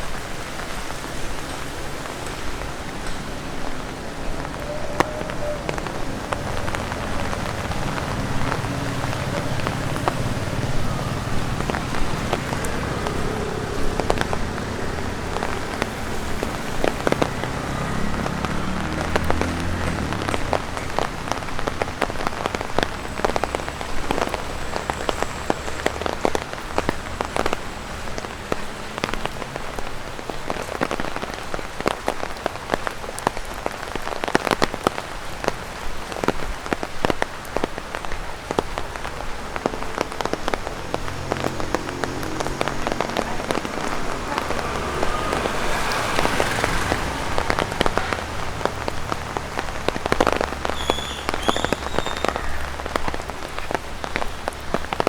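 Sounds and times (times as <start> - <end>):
rain pattering on an umbrella: 0.0 - 55.0
drops tapping umbrella fabric: 2.2 - 55.0.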